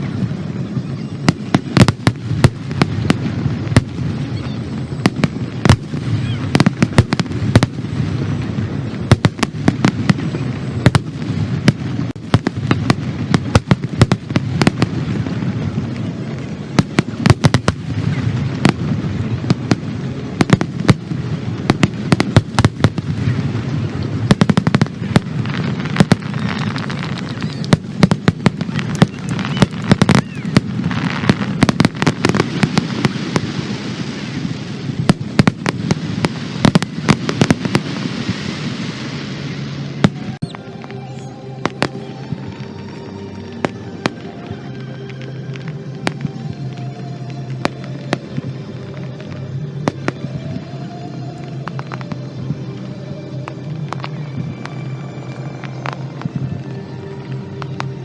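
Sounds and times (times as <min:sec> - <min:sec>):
fireworks bangs: 0:00.0 - 0:58.0
hissing crackle: 0:00.0 - 0:58.0.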